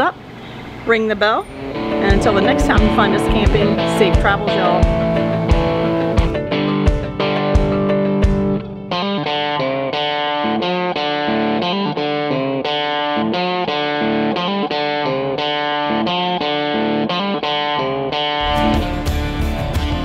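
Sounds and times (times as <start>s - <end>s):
guitar-led background music: 1.4s - 20.0s.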